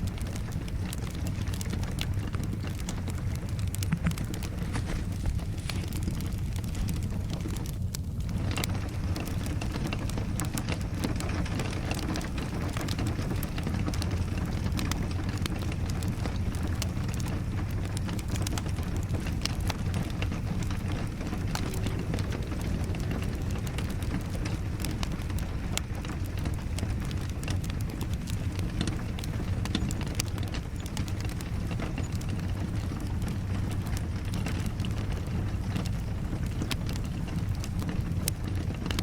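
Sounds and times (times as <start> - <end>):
rain falling: 0.0 - 39.0
wood fire crackling and popping: 0.0 - 39.0.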